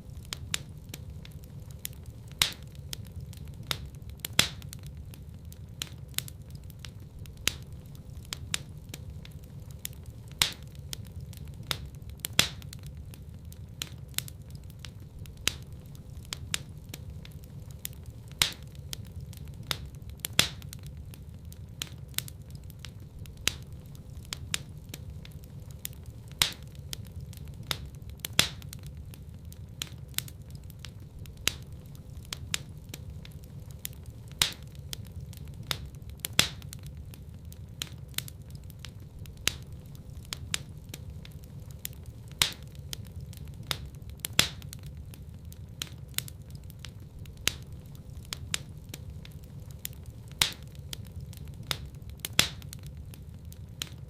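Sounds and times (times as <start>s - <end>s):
burning logs crackling and popping: 0.0s - 54.0s
flames rumbling: 0.0s - 54.0s.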